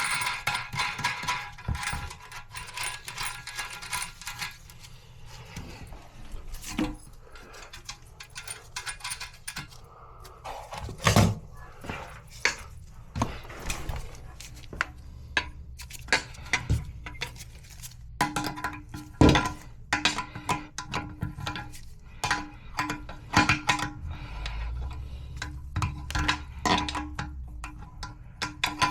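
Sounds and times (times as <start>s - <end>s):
clicks and clinks of tools: 0.0s - 28.9s.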